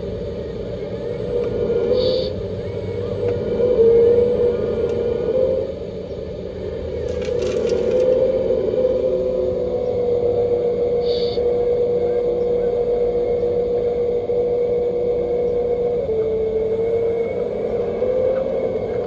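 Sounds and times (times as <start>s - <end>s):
simulated diesel engine hum: 0.0s - 19.0s.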